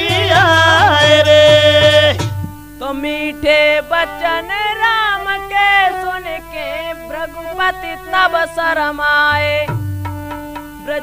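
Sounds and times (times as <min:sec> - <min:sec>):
folk song music: 0:00.0 - 0:11.0.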